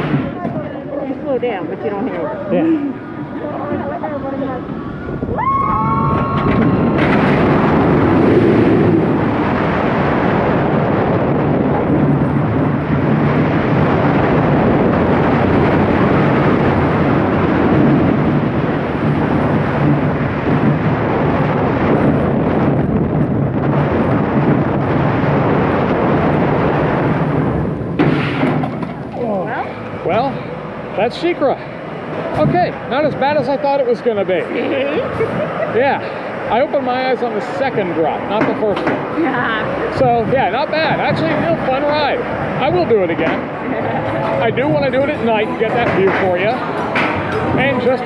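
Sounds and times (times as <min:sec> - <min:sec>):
roller coaster rumbling on track: 0:00.0 - 0:48.0
wind rushing over microphone: 0:00.0 - 0:48.0.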